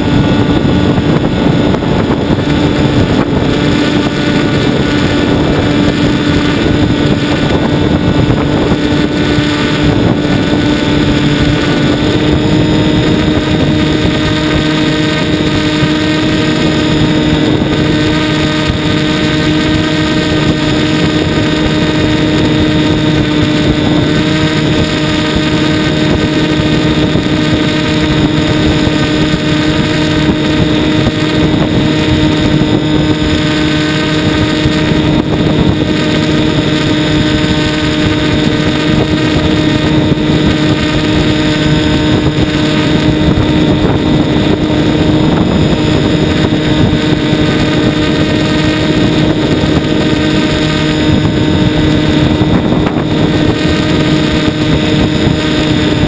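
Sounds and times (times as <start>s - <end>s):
air rushing past: 0.0s - 56.0s
model airplane motor and propeller: 0.0s - 56.0s.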